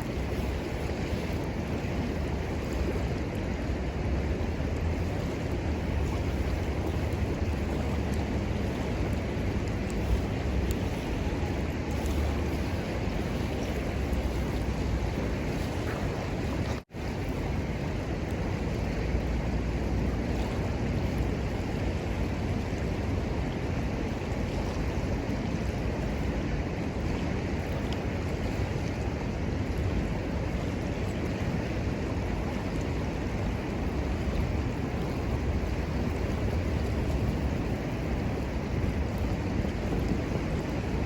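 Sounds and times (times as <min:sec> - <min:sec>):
river water rushing: 0:00.0 - 0:41.0
wind rumble on microphone: 0:00.0 - 0:41.0.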